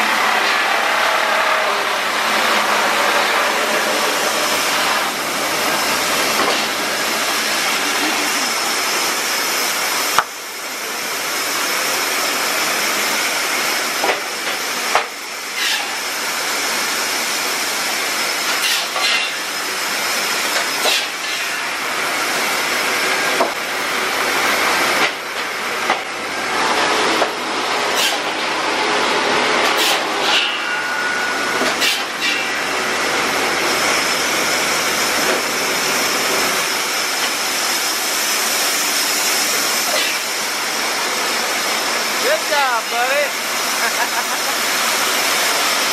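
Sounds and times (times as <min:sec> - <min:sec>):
sawmill machinery hissing din: 0:00.0 - 0:45.9.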